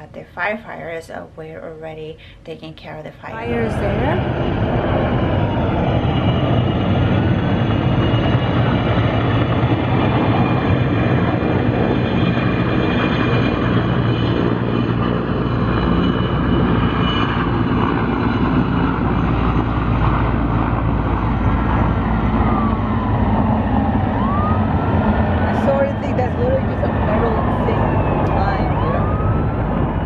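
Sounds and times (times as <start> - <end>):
helicopter rotor and engine drone: 0.0 - 30.0
faint siren wailing: 3.2 - 30.0.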